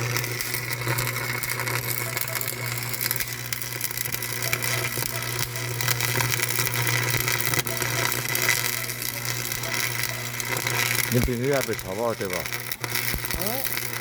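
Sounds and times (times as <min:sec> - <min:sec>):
machine humming and rattling: 0:00.0 - 0:14.0.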